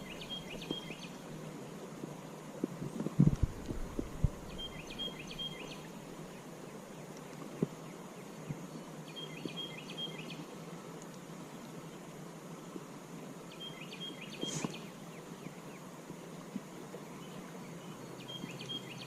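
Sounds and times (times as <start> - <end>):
songbird chirping: 0.0 - 1.8, 3.6 - 12.2, 13.4 - 19.0
steady background noise: 0.0 - 19.0.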